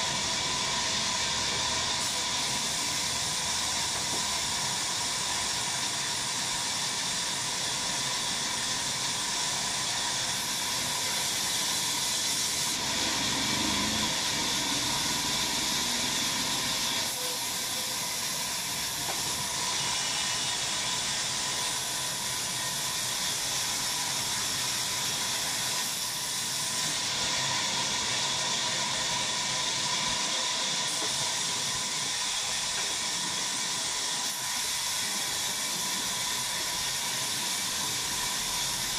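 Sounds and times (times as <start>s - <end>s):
sawmill cutting wood: 0.0s - 38.9s.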